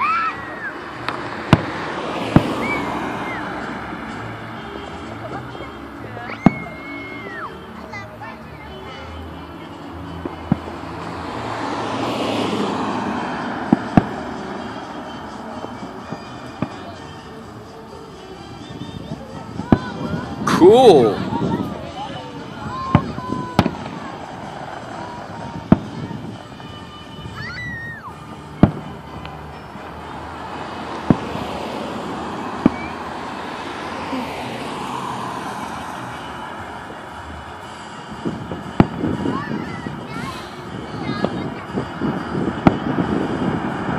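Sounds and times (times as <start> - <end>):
firework bangs: 0.0 - 5.7, 10.1 - 17.2, 18.6 - 33.5, 36.0 - 43.9
road traffic noise: 0.0 - 43.9
vehicle passing: 0.0 - 43.9.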